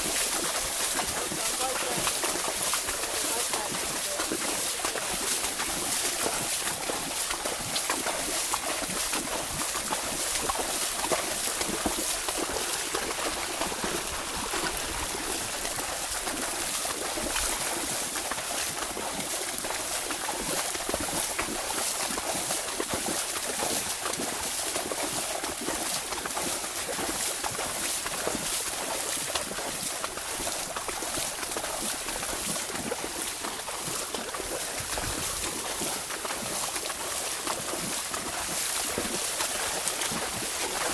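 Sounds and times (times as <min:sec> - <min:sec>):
horse wading through water: 0:00.0 - 0:40.9.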